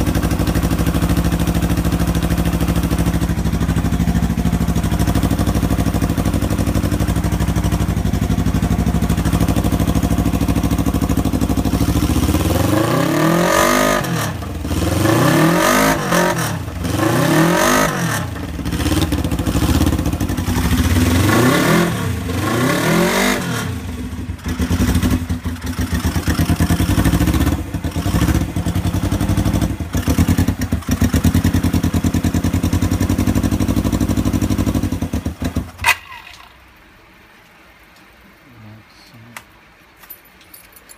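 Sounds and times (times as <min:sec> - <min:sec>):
motorcycle engine idling and revving: 0:00.0 - 0:36.6.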